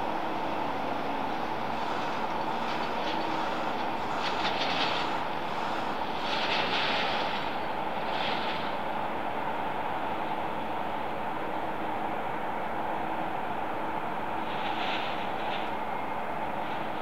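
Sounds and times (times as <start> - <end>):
jet engine drone: 0.0 - 17.0.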